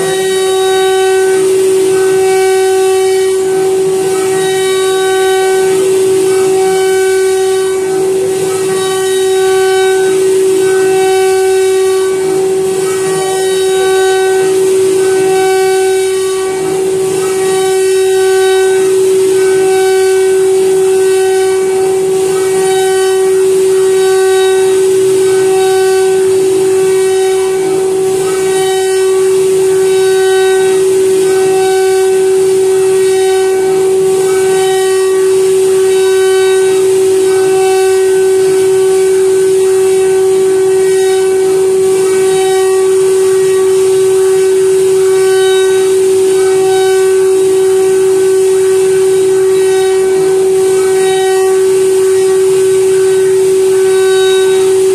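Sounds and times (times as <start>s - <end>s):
router spindle whine: 0.0s - 54.9s.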